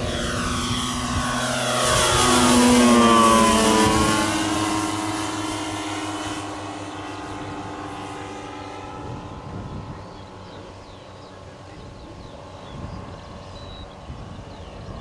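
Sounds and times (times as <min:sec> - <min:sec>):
model plane propellers droning past: 0:00.0 - 0:15.0.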